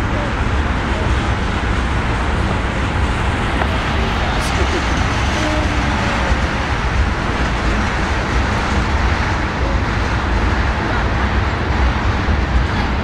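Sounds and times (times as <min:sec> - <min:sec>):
freight train wheels rolling: 0:00.0 - 0:13.0.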